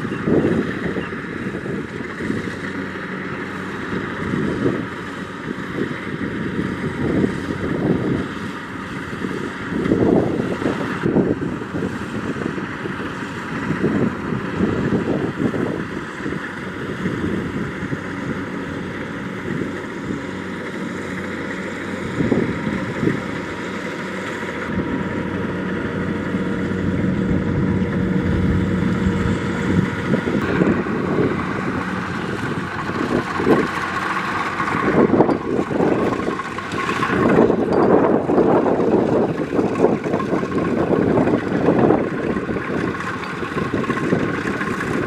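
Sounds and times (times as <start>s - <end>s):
wind buffeting microphone: 0.0s - 23.7s, 24.4s - 45.0s
combine harvester running: 0.0s - 45.0s.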